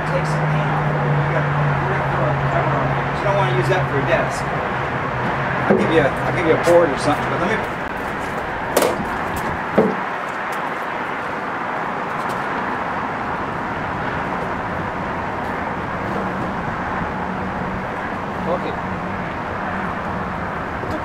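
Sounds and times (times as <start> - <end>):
urban traffic hum: 0.0 - 21.0.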